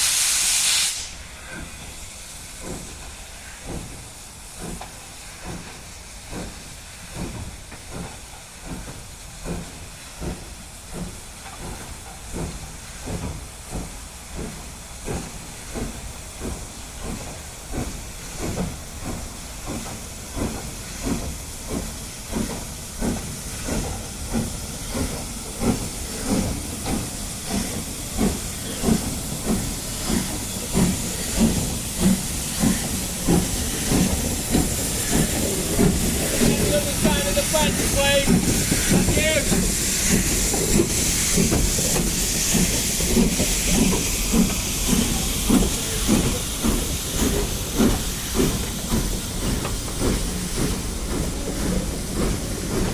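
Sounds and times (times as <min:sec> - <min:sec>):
steam hissing: 0:00.0 - 0:52.9
steam locomotive chuffing: 0:00.0 - 0:52.9.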